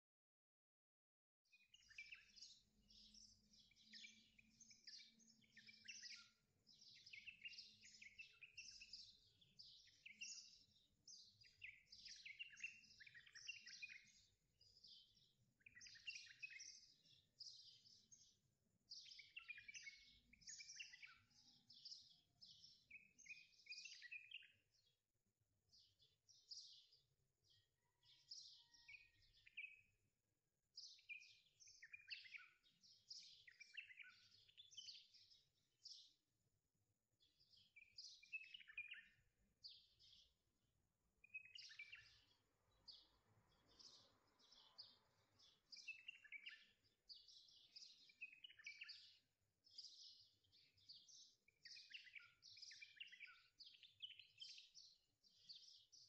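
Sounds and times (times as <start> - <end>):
faint birds chirping: 1.4 - 56.0.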